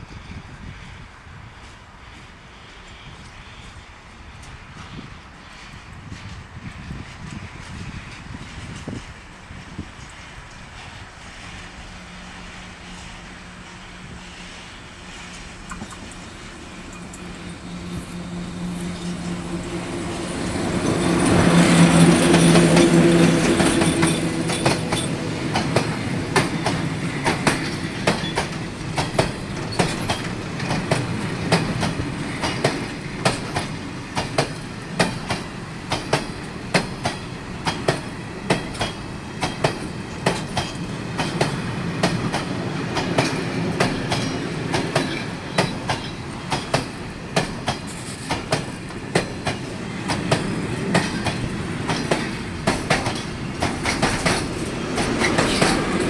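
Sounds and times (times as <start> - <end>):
locomotive hum: 0.0 - 56.0
train wheels clickety-clack: 0.3 - 56.0.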